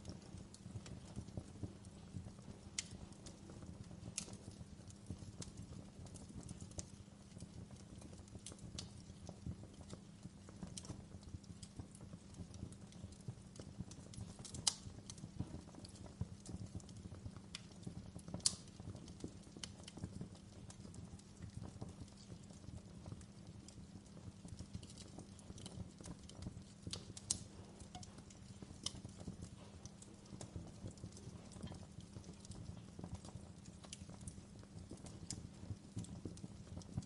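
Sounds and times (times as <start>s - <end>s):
fire crackling and popping: 0.0s - 37.0s
fire flames rumbling: 0.0s - 37.0s.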